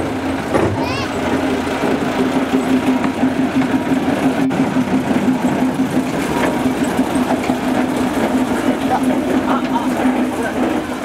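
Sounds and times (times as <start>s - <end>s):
diesel locomotive engine humming: 0.0s - 11.0s.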